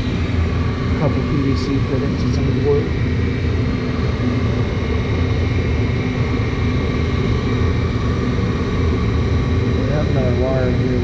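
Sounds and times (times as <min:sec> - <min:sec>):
faint steady whine: 0:00.0 - 0:11.0
furnace blower rumble: 0:00.0 - 0:11.0.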